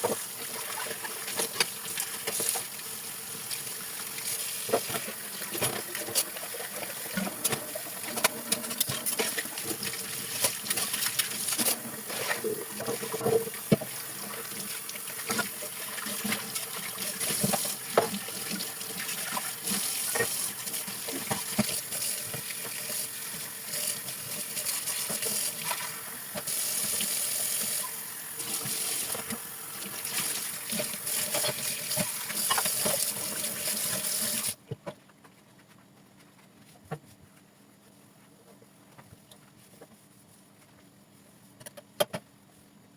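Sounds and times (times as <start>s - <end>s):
tap water running into sink: 0.0s - 34.6s.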